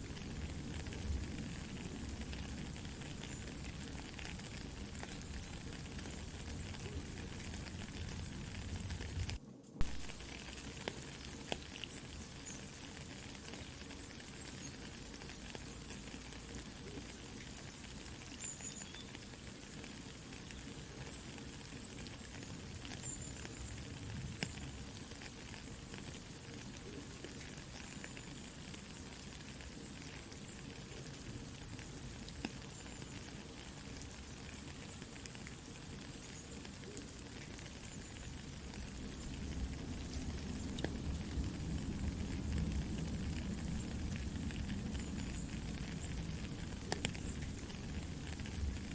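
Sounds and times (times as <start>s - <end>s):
campfire crackling: 0.0s - 48.9s
soft rain hissing: 0.0s - 48.9s.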